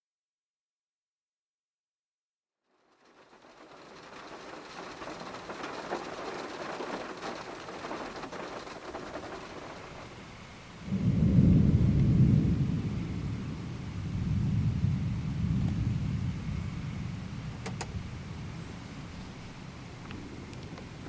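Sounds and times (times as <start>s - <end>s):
rain hissing: 2.7s - 21.0s
thunder rumbling: 2.8s - 21.0s.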